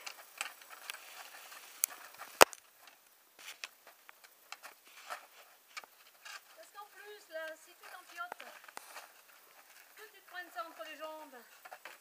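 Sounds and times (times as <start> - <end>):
boots and poles clicking on rock: 0.0 - 12.0.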